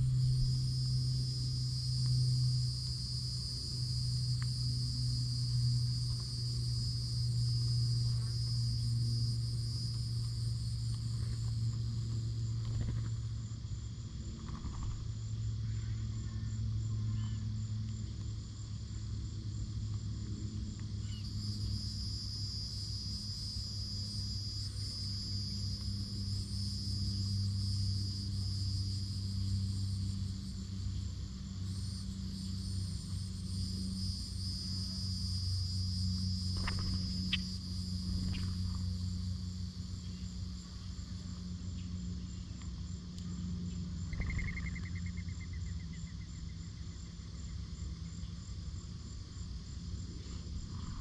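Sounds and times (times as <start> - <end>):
insects trilling: 0.0 - 51.0
steady low hum: 0.0 - 51.0.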